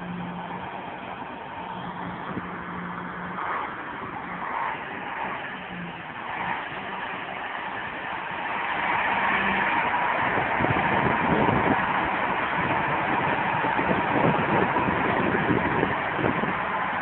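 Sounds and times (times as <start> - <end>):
tractor diesel engine working hard: 0.0 - 17.0
tyres spinning in deep mud: 0.0 - 17.0.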